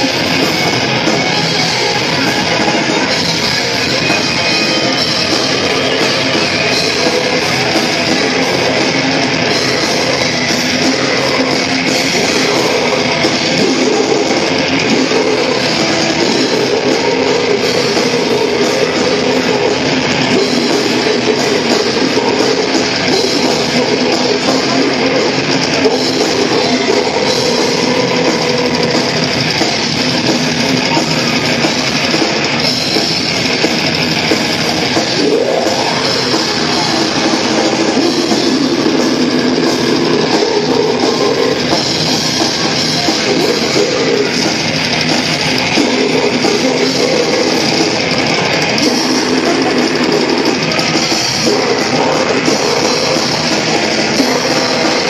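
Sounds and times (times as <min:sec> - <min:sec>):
metal band playing live: 0:00.0 - 0:55.0.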